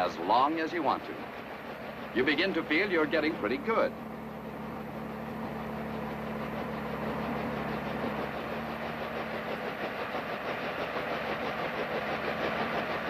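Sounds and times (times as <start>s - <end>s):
helicopter engine and rotor: 0.0s - 13.0s.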